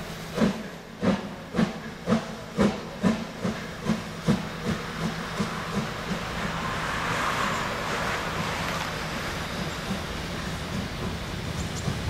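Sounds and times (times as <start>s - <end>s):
steam hissing from drain cocks: 0.0s - 12.0s
steam locomotive exhaust chuffs: 0.0s - 12.0s.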